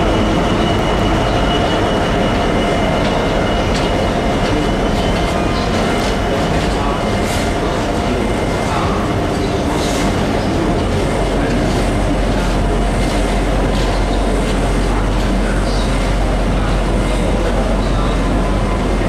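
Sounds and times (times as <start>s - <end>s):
freight train rumbling on rails: 0.0s - 19.0s.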